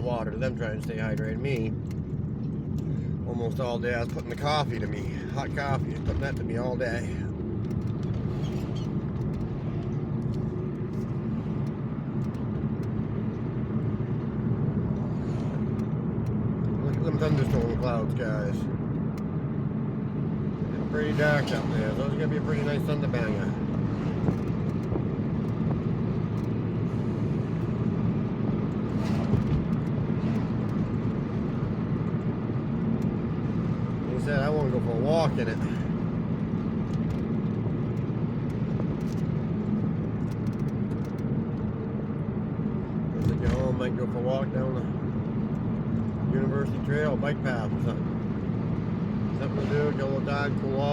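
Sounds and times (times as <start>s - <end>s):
car road and engine noise: 0.0s - 50.9s.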